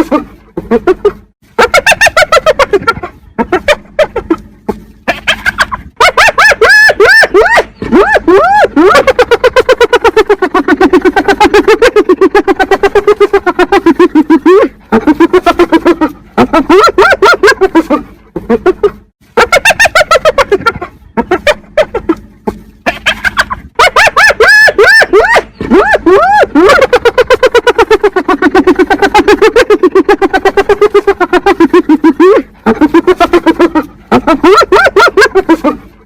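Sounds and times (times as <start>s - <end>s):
hyena giggling: 0.0s - 36.0s.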